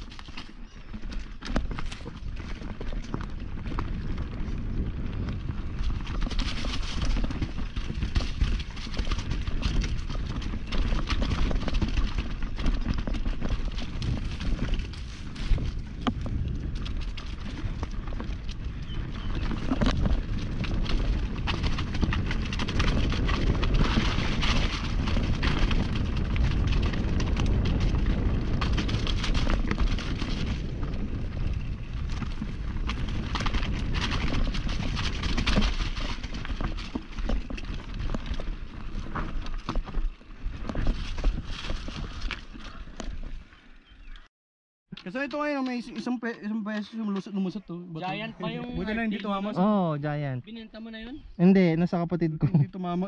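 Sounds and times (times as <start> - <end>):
bike clattering over bumps: 0.0 - 43.4
tyres rumbling over dirt and rocks: 0.0 - 43.4
wind buffeting microphone: 0.7 - 44.2.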